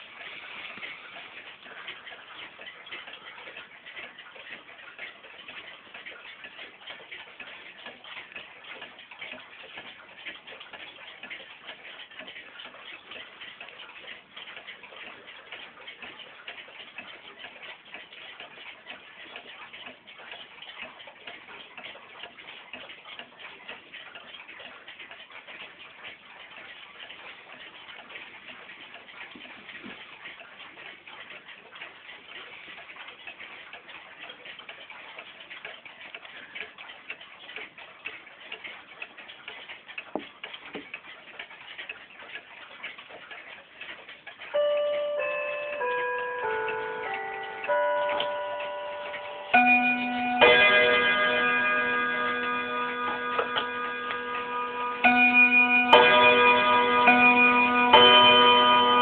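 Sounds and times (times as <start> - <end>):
pendulum clock ticking: 0.0 - 59.0.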